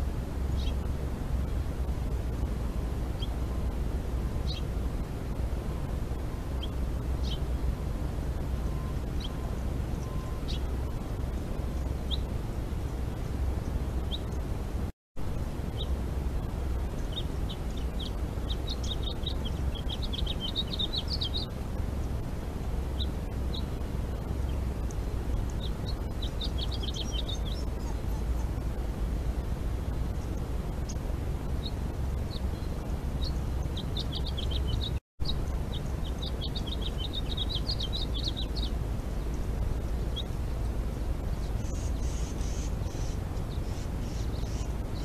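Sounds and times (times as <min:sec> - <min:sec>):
small birds chirping: 0:00.0 - 0:14.8, 0:15.4 - 0:45.0
steady low background noise: 0:00.0 - 0:45.0.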